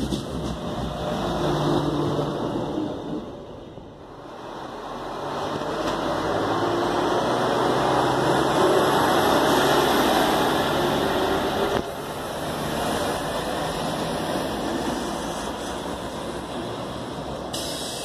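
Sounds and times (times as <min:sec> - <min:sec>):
diesel railcar engine hum: 0:00.0 - 0:18.0.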